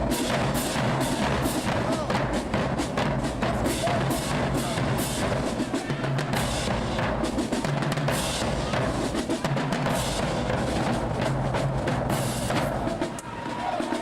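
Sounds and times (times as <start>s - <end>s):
drumline playing cadence: 0.0s - 14.0s.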